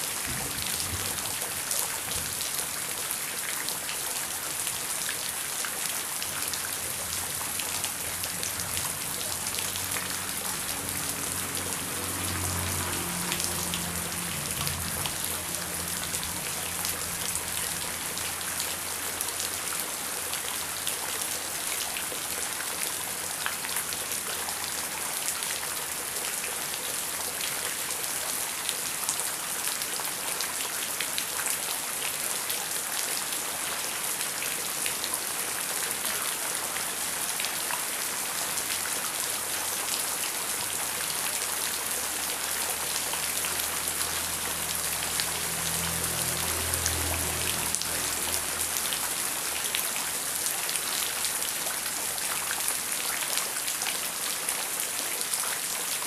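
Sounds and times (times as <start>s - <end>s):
heavy rain falling: 0.0s - 56.0s
raindrops ticking on a surface: 0.1s - 56.0s.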